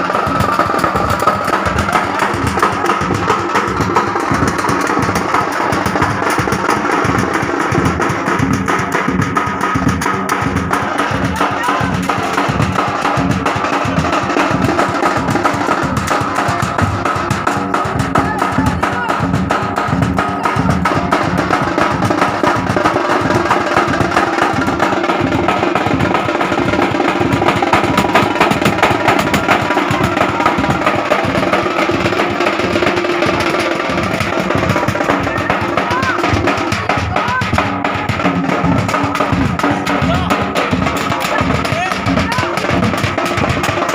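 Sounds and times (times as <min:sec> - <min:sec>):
music with fast dense drumming: 0:00.0 - 0:43.9.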